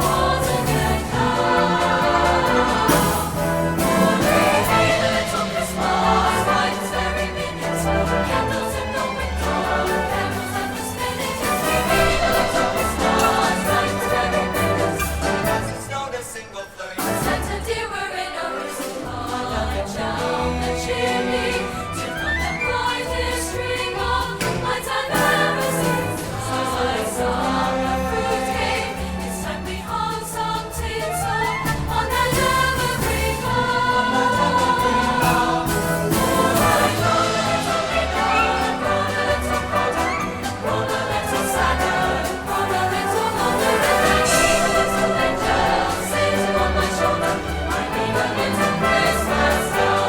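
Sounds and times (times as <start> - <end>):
choir singing: 0.0 - 50.0
symphony orchestra: 0.0 - 50.0.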